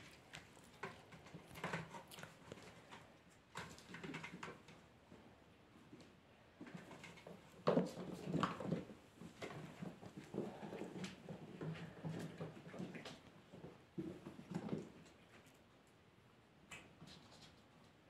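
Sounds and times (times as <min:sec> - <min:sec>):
kitten paws tapping and scratching: 0:00.0 - 0:04.8, 0:05.9 - 0:15.7, 0:16.7 - 0:18.0.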